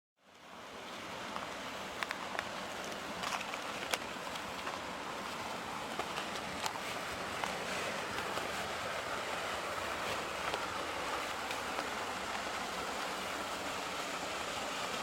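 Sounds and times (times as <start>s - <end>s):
waterfall rushing: 0.5s - 15.0s.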